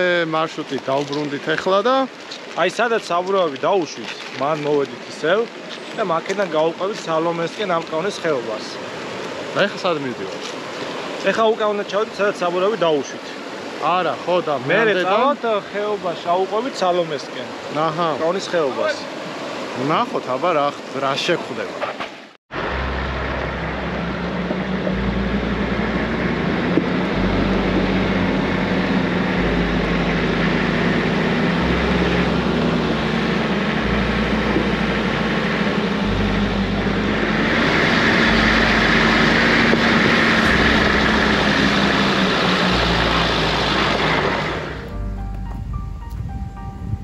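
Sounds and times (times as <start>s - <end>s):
off-road vehicle engine and tyres: 0.0s - 47.0s.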